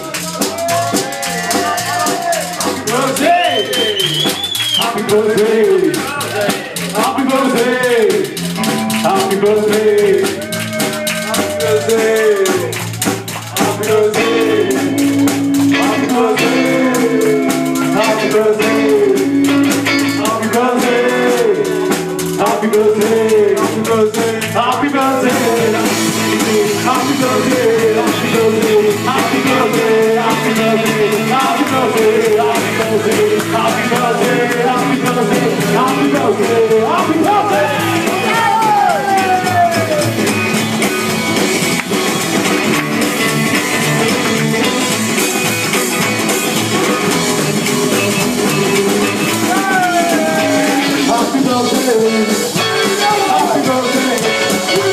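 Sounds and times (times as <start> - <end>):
drum kit: 0.0 - 54.9
electric guitar: 0.0 - 54.9.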